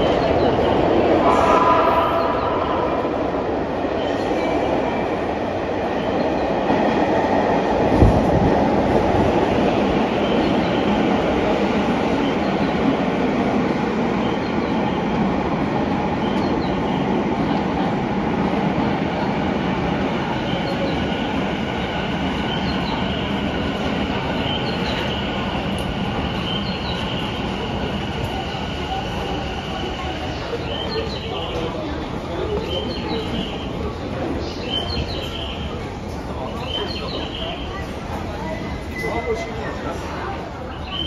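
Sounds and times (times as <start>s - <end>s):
electric train rumbling: 0.0s - 41.0s.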